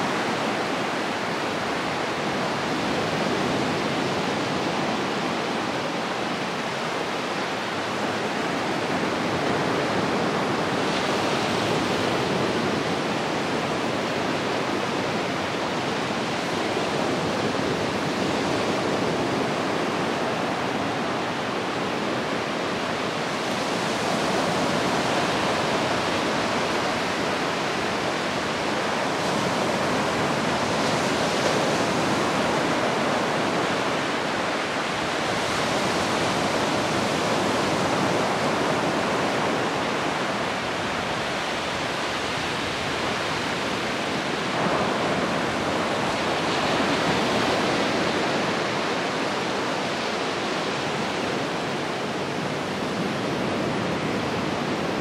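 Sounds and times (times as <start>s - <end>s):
surf washing up a beach: 0.0s - 55.0s.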